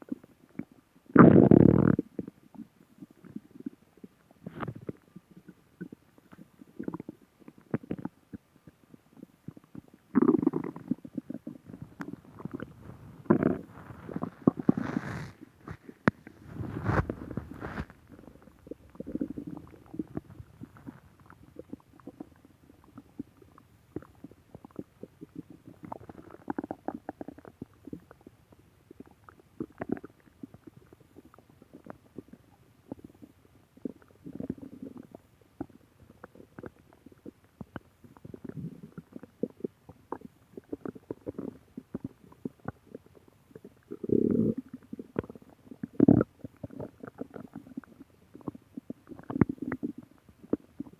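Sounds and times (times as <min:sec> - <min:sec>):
stomach growling and gurgling: 0:00.0 - 0:50.9.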